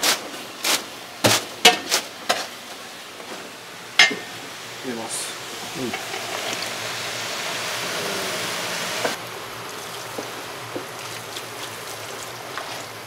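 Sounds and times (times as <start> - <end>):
meat and onions sizzling in a pot: 1.2 - 13.0.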